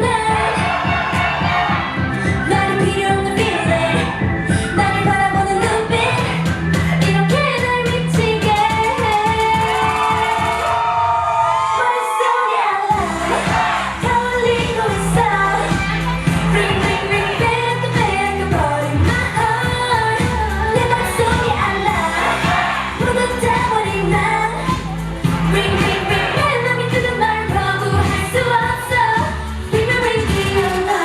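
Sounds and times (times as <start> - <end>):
pop dance track with female vocals: 0.0 - 10.9, 11.5 - 31.0.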